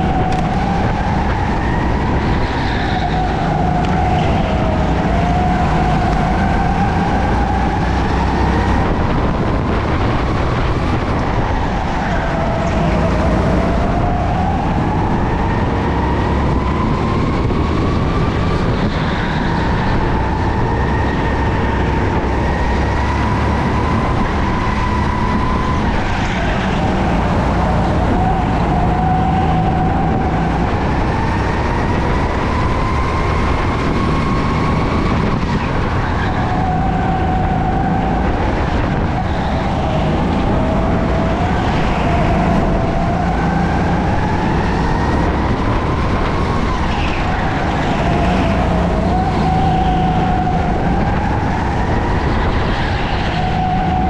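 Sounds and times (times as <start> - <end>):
go-kart engine accelerating: 0.0 - 54.0.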